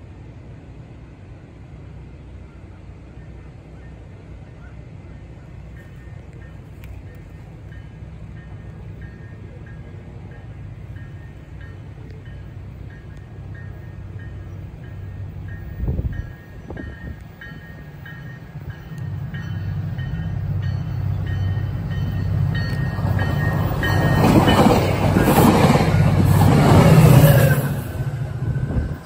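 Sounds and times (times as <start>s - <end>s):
train rumble and wheel noise: 0.0s - 29.0s
crossing bell ringing: 5.7s - 29.0s.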